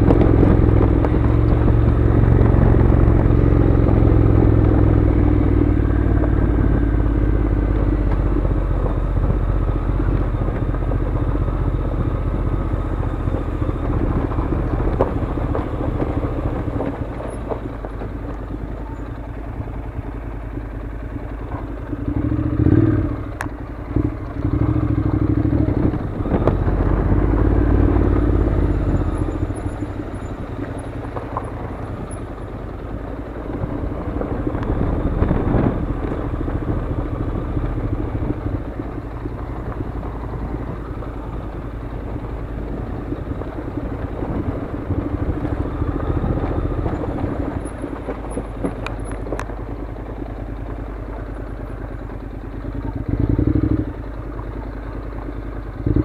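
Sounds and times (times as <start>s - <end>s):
motorcycle engine running: 0.0s - 56.0s
tyres on gravel: 6.1s - 55.7s.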